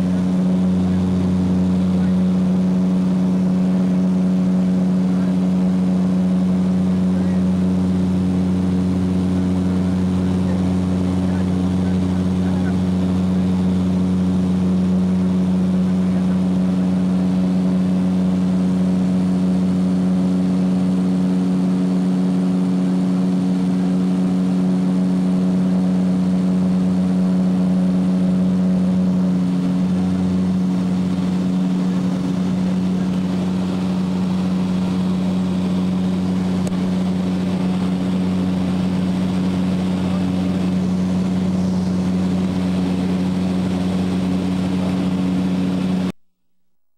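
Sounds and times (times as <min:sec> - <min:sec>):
aircraft engines droning in cabin: 0:00.0 - 0:46.2.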